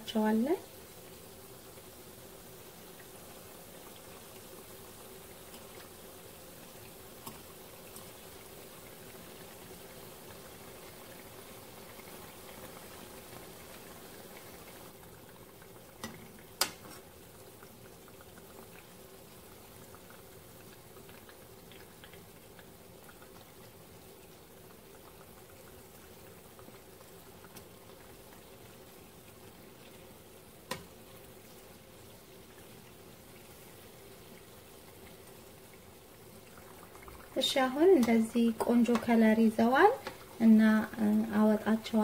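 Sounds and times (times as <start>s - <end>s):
oil bubbling and sizzling: 0.0s - 42.0s.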